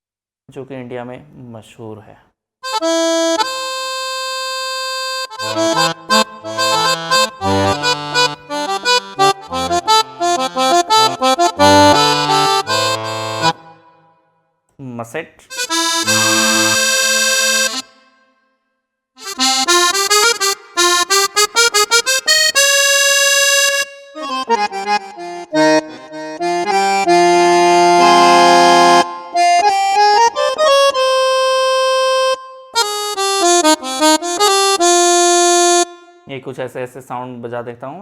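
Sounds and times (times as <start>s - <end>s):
keyboard playing accordion voice: 2.6s - 14.2s, 15.5s - 18.4s, 19.2s - 36.3s.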